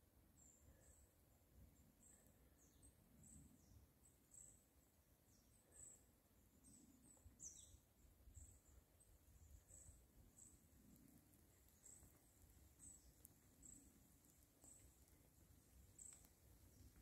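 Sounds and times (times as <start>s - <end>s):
small birds chirping: 0.3s - 17.0s.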